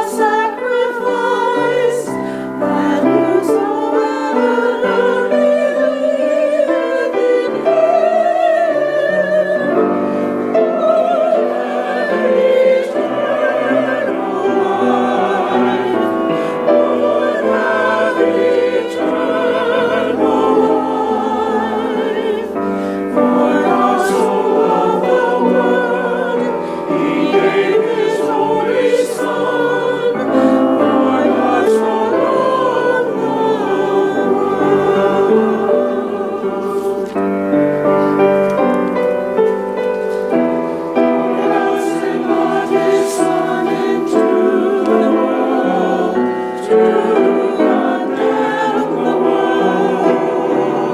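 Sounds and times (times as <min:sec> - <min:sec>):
choir singing with vibrato: 0:00.0 - 0:50.9
piano: 0:00.0 - 0:50.9.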